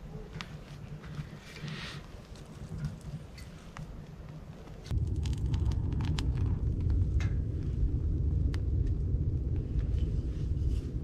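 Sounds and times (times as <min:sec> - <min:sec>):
fire crackles: 0:00.3 - 0:11.0
log fire roaring: 0:00.6 - 0:11.0.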